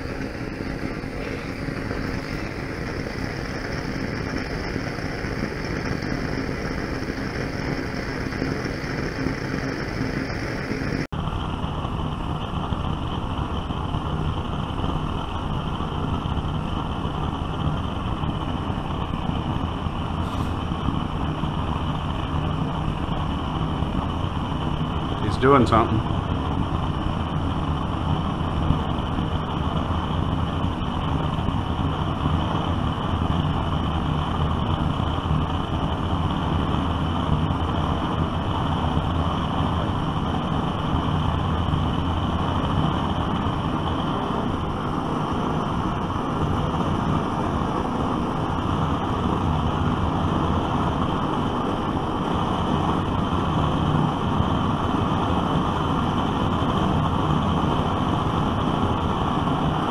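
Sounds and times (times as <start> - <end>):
blowtorch roaring: 0.0 - 59.9.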